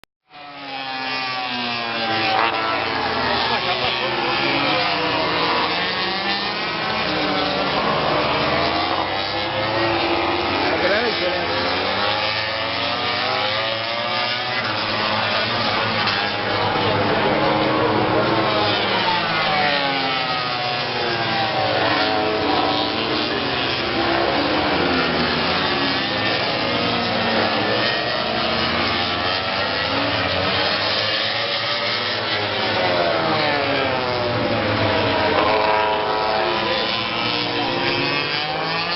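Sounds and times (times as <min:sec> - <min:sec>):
motorcycle engines revving: 0:00.3 - 0:38.9.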